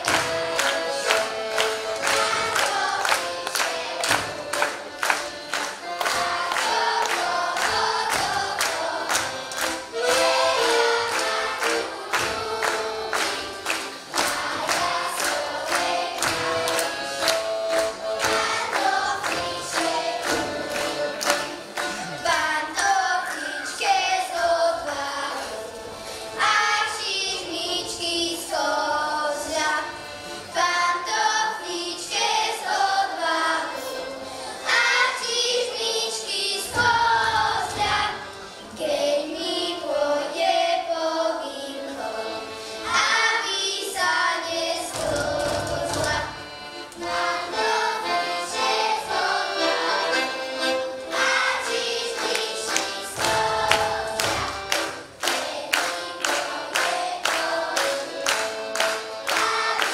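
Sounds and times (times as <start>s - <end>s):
children singing folk song: 0.0s - 59.9s.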